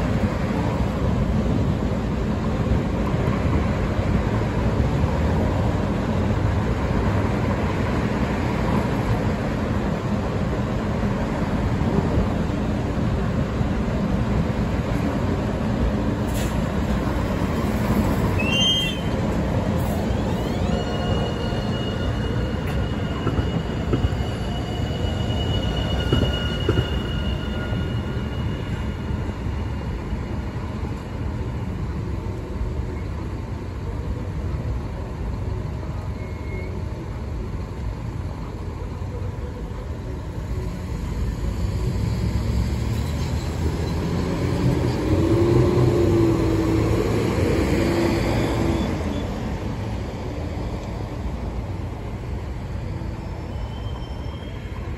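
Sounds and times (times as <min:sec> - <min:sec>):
light-rail train passing: 0:00.0 - 0:54.9.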